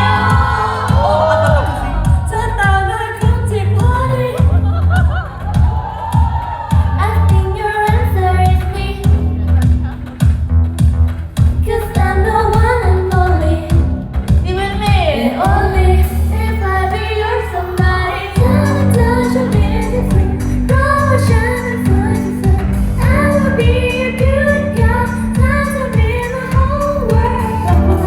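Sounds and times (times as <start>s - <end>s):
woman singing pop song: 0.0s - 9.9s, 11.4s - 28.0s
bass line: 0.0s - 28.0s.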